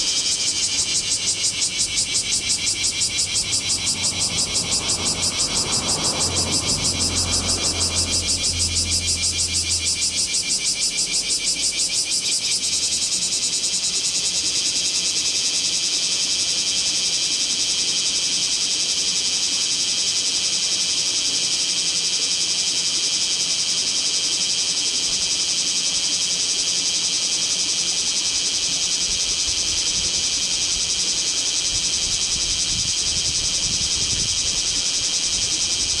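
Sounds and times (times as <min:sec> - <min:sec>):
cicada buzzing: 0:00.0 - 0:36.0.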